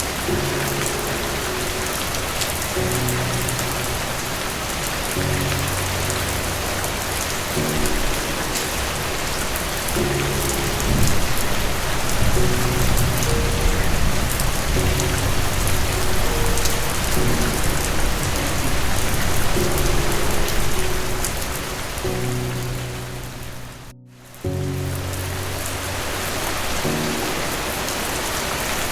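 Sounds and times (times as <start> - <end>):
distant thunder rumbling: 0.0 - 23.8
rain falling: 0.0 - 28.9
soft background music: 0.0 - 28.9.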